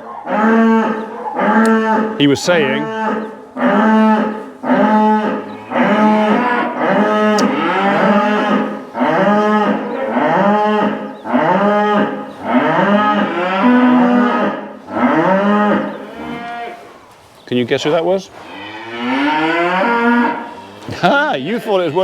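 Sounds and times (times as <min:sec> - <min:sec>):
cow mooing: 0:00.2 - 0:16.9, 0:18.3 - 0:22.0.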